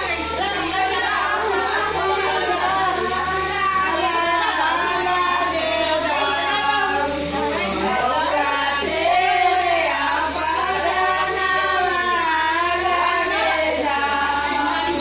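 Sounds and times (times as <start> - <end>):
people talking: 0.0 - 15.0
women singing together: 0.0 - 15.0.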